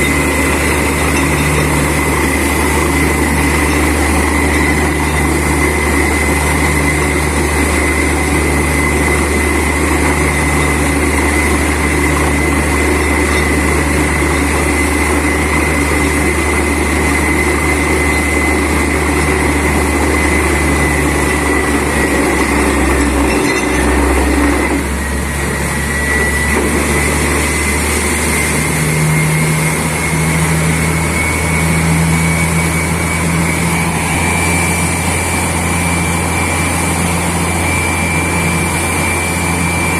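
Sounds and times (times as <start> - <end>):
drilling rig low drone: 0.0 - 39.9
high whine: 0.0 - 39.9.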